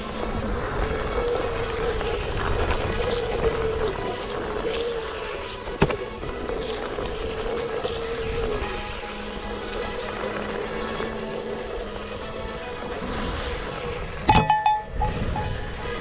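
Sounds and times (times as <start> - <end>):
electric hub motor whining: 0.0 - 16.0.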